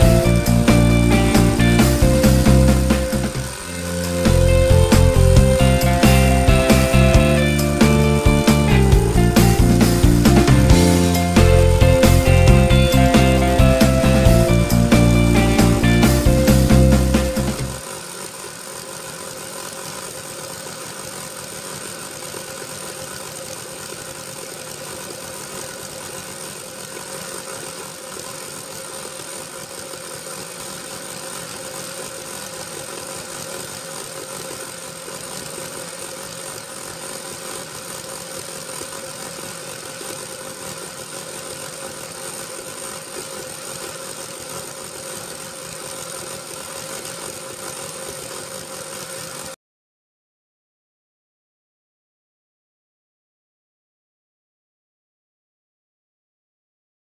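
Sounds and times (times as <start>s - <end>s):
machine humming with high whine: 0.0s - 49.6s.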